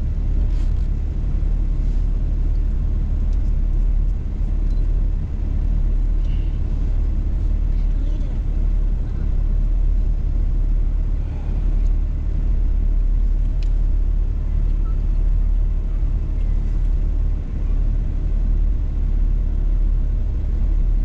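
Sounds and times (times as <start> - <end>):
car engine cruising: 0.0 - 21.0
tyre road noise: 0.0 - 21.0.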